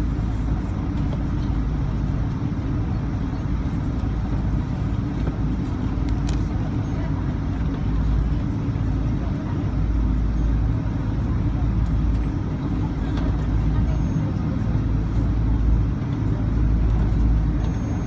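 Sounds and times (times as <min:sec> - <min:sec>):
airplane engines humming: 0:00.0 - 0:18.0.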